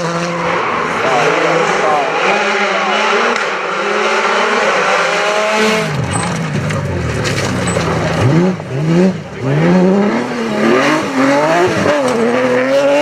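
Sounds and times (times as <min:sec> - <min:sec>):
rally car engine at high revs: 0:00.0 - 0:13.0.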